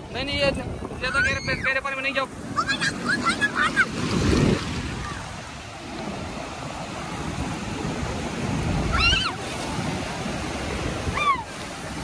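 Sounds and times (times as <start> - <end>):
sea surf washing in: 0.0 - 12.0.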